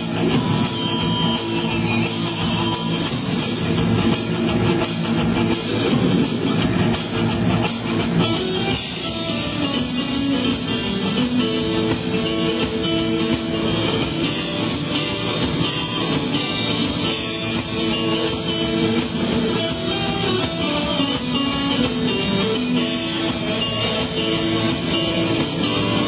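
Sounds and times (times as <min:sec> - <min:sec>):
electric guitar: 0:00.0 - 0:26.0
rock band with orchestra: 0:00.0 - 0:26.0.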